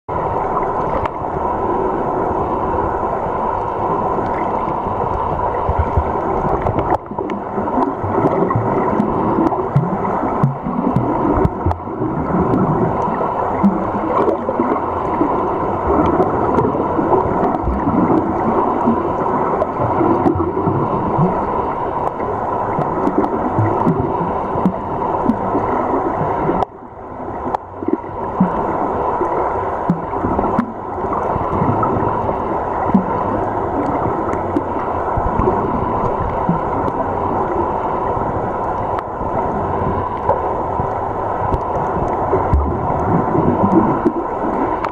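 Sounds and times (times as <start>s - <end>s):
underwater rush of water: 0.1s - 44.9s
water gurgles: 0.1s - 44.9s.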